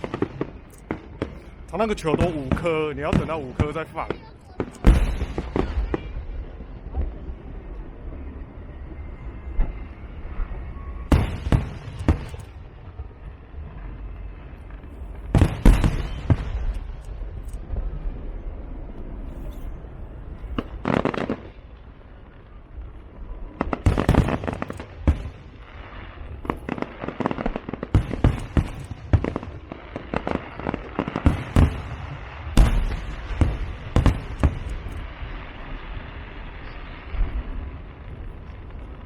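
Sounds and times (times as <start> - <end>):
fireworks bangs and cracks: 0.0 - 39.0.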